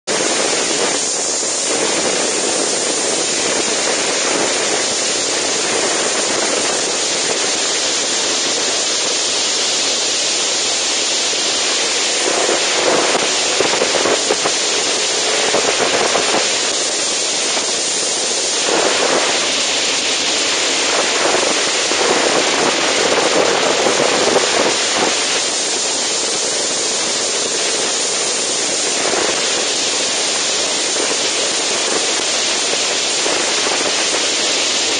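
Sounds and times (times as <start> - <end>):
wind rushing over microphone: 0.1 - 34.9.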